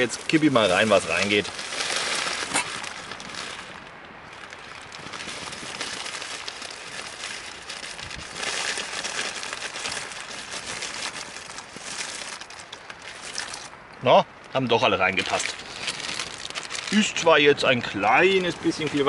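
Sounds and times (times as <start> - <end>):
plastic bag crinkling: 0.0 - 13.8, 14.4 - 19.0.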